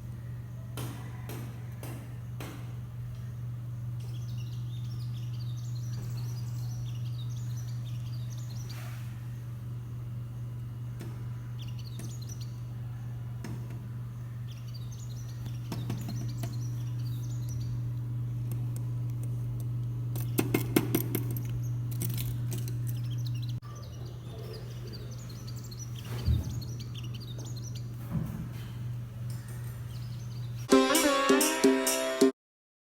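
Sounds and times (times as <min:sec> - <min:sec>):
small birds chirping: 0:00.0 - 0:28.0, 0:28.7 - 0:30.7
steady low hum: 0:00.0 - 0:30.7.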